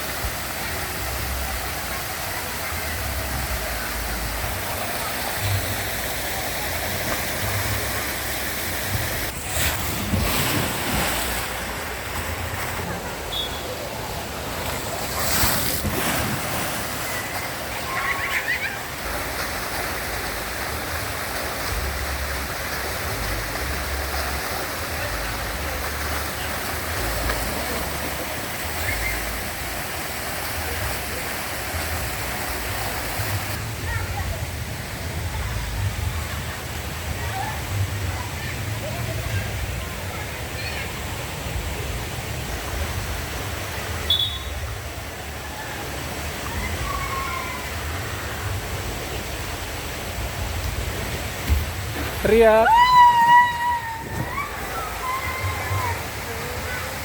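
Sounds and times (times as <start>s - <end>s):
running and splashing water: 0.0s - 57.0s.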